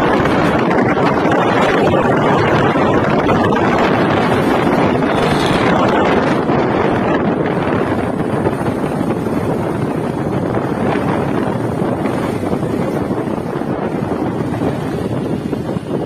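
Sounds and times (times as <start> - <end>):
motorcycle vehicle noise: 0.0 - 16.0
wind rush on microphone: 0.0 - 16.0.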